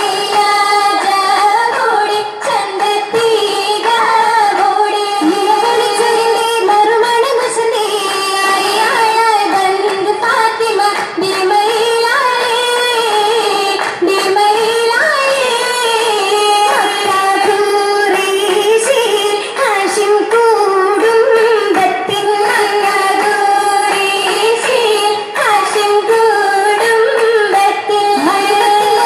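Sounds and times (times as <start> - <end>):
women singing: 0.0 - 29.0.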